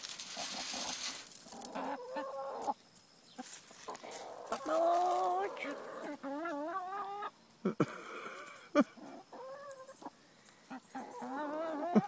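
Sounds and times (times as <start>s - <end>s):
hens clucking: 0.1s - 12.0s.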